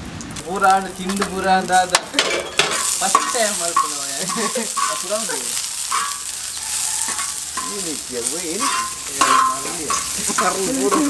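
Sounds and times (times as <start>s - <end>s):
food sizzling in pan: 0.3s - 11.0s
indistinct voices talking: 0.4s - 11.0s.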